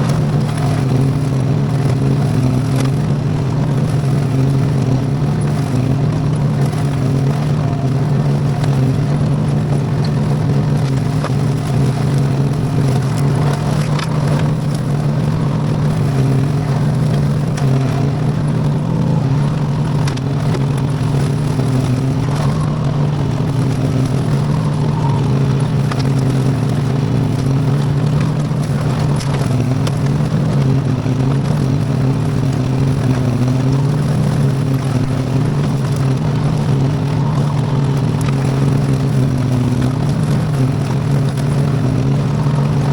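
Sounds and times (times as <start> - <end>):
faint ticks: 0.0 - 42.9
tractor engine running: 0.0 - 42.9.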